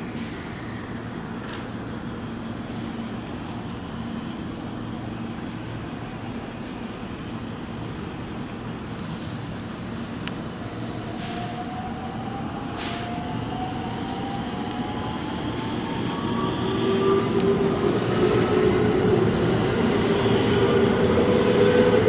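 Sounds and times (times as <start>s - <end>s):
railway station ambience: 0.0s - 22.0s.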